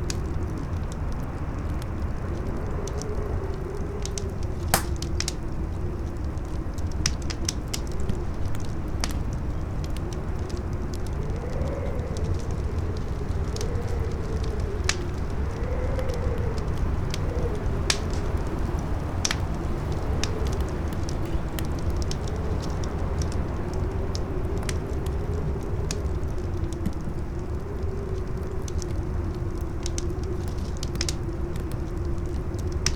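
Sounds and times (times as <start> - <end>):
campfire crackling and popping: 0.0 - 32.9
howling wind: 0.0 - 32.9
low wind noise: 0.0 - 32.9.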